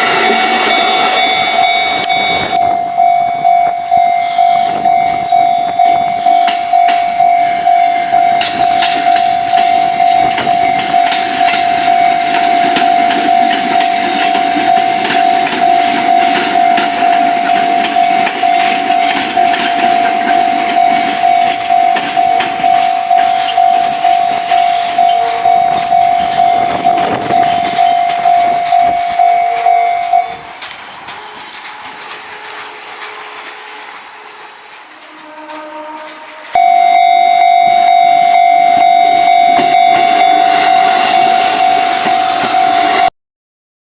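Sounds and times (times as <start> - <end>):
level crossing alarm ringing: 0.0 - 32.6, 36.5 - 43.1
train running past: 0.0 - 43.1.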